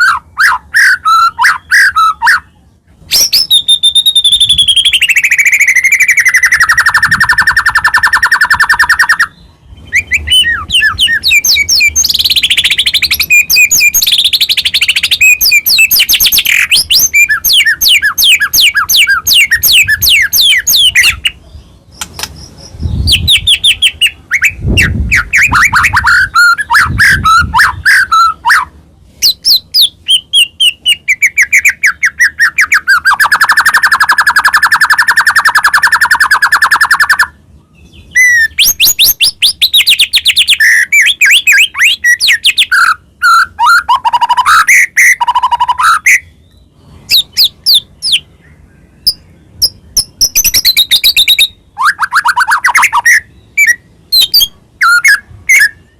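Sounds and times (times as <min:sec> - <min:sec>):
songbird singing trills: 0:00.0 - 0:55.9.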